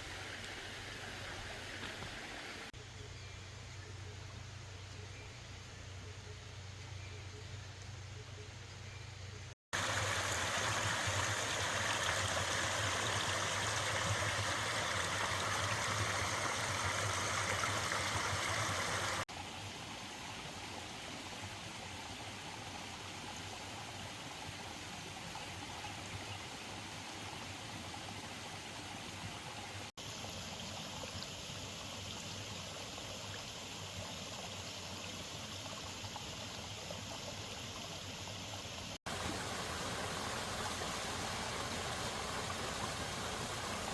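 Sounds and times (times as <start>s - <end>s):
stream flowing: 0.0s - 2.8s, 9.7s - 43.9s.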